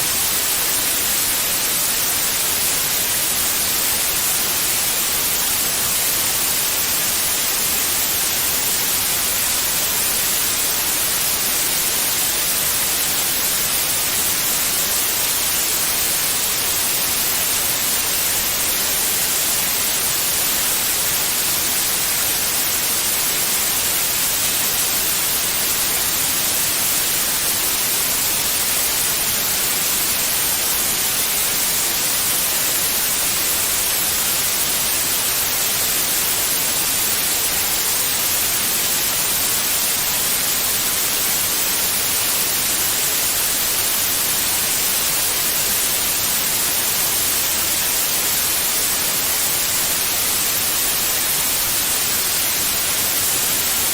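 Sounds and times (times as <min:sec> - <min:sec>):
white noise hiss: 0:00.0 - 0:53.9.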